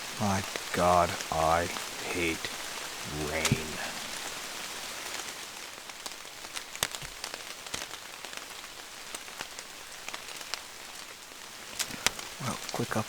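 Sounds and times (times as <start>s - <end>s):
raindrops ticking: 0.0s - 13.0s
steady rain hiss: 0.0s - 13.0s.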